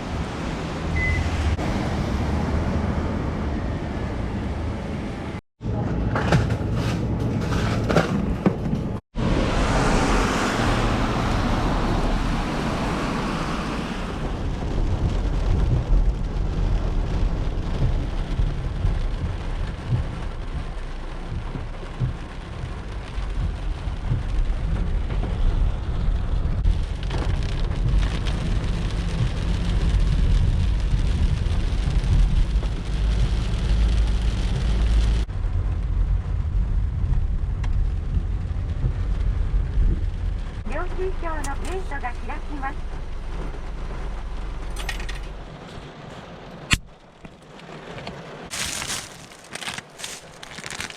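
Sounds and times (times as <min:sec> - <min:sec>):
driving rain hiss: 0:09.2 - 0:50.9.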